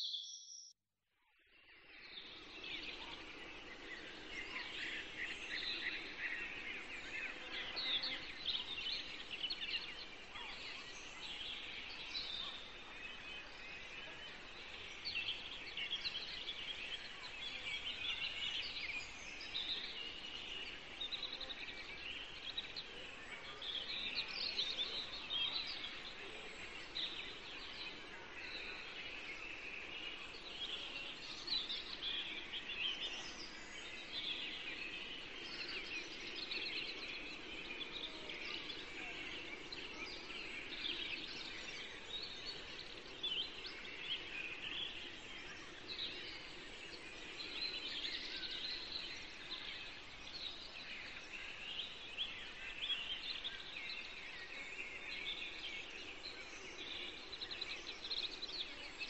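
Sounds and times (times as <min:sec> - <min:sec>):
birds chirping: 0:02.1 - 0:59.0.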